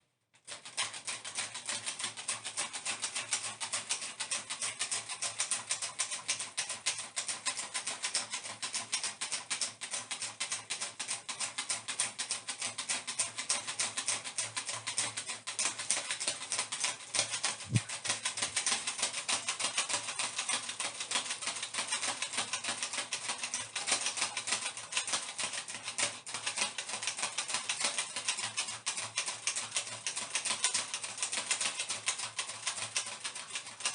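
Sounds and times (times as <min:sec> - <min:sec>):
hand fan fluttering rattle: 0:00.4 - 0:33.9.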